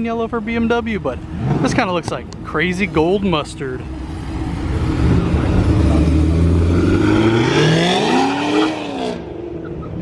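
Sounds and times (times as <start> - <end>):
car engine revving: 1.2 - 9.8.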